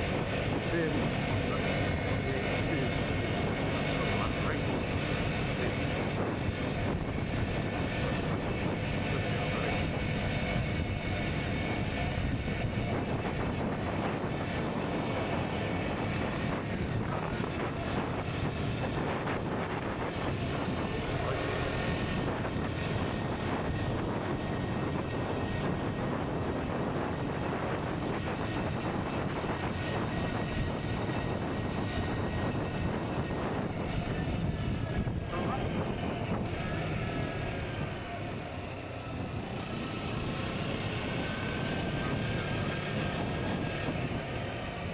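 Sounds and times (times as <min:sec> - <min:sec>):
wind noise on microphone: 0:00.0 - 0:44.9.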